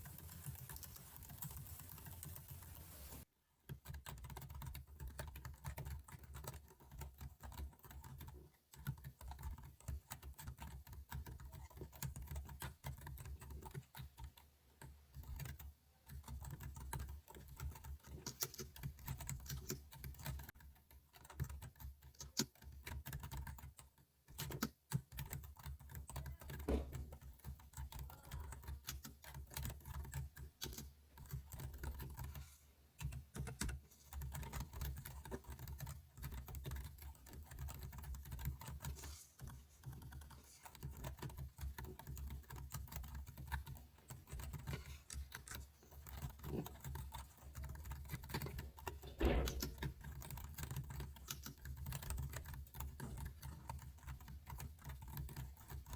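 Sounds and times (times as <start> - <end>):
typing on computer keyboard: 0.0 - 55.9.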